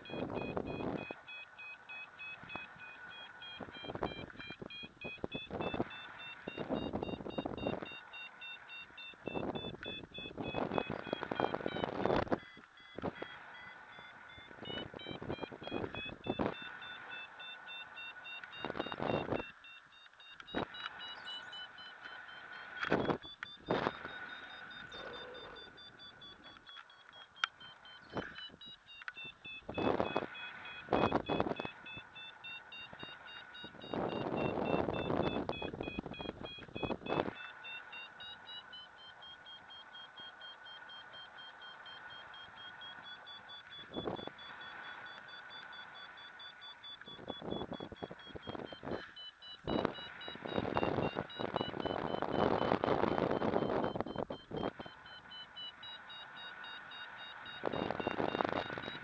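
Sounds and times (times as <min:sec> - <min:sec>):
variometer beeping in rapid pulses: 0:00.0 - 0:59.0.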